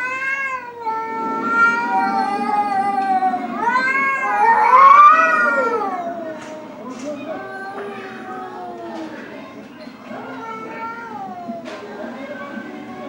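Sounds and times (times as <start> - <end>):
cat yowling: 0.0 - 9.2, 10.2 - 11.9.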